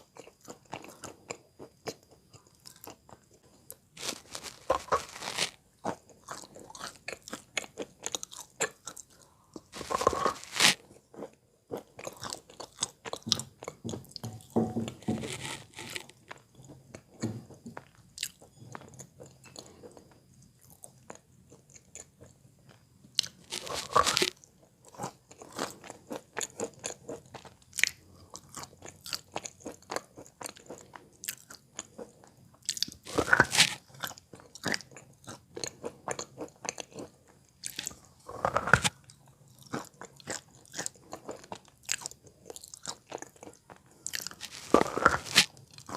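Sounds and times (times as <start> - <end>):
crunching and chewing chalk: 0.0 - 45.9.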